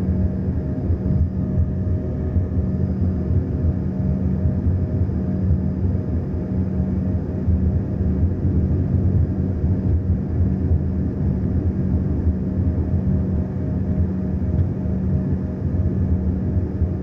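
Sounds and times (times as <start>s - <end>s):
airliner engines rumbling: 0.0s - 17.0s.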